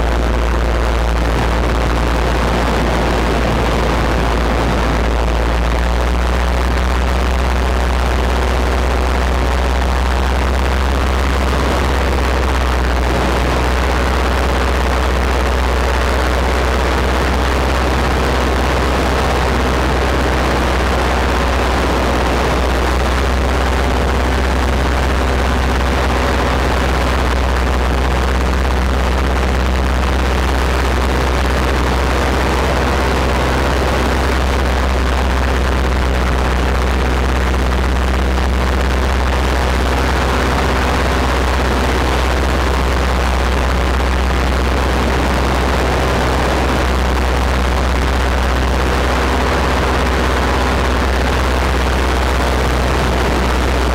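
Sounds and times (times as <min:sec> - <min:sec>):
light aircraft engine humming: 0:00.0 - 0:53.9
wind rush on microphone: 0:00.0 - 0:53.9.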